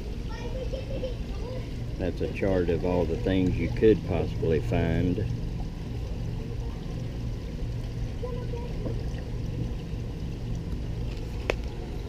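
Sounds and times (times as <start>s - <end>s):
water running through flume: 0.0s - 12.0s.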